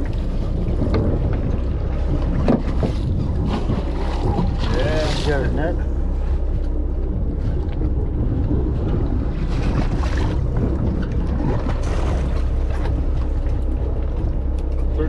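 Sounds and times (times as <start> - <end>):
boat engine low rumble: 0.0 - 15.0
wind buffeting microphone: 0.0 - 15.0.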